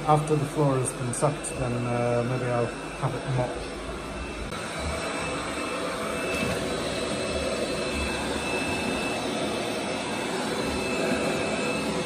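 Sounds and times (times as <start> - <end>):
robot vacuum cleaner whirring: 0.0 - 12.0.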